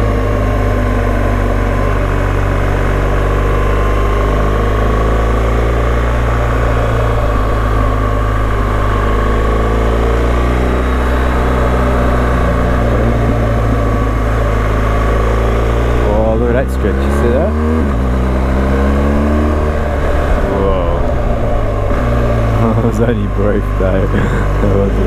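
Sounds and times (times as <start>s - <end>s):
motorcycle engine running: 0.0s - 25.0s
wind and road rush: 0.0s - 25.0s.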